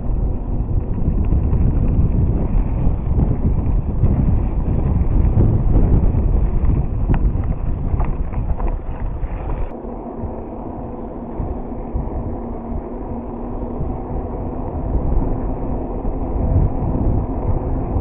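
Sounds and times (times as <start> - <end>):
faint steady hum: 0.0 - 18.0
wind buffeting microphone: 0.0 - 18.0.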